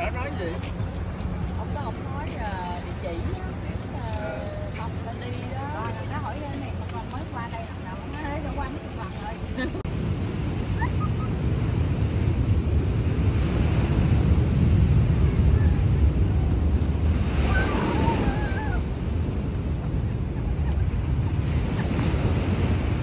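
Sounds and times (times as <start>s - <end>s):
ocean surf washing ashore: 0.0s - 23.0s
wind buffeting microphone: 0.0s - 23.0s.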